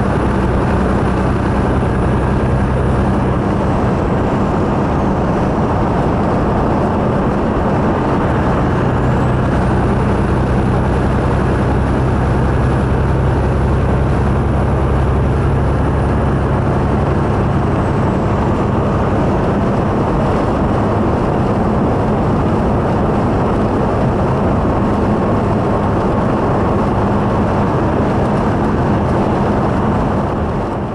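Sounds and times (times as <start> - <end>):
truck engine and road noise: 0.0 - 30.9.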